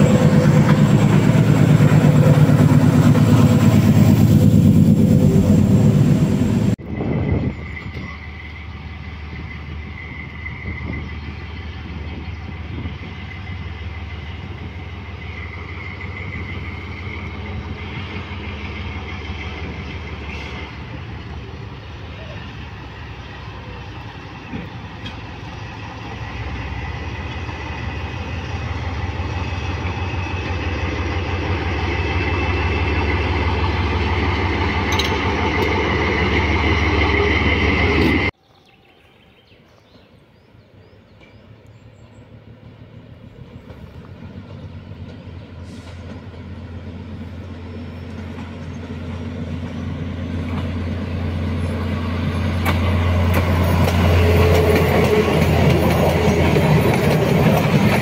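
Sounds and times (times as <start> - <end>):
diesel locomotive engine hum: 0.0 - 58.0
passenger train passing: 0.0 - 58.0.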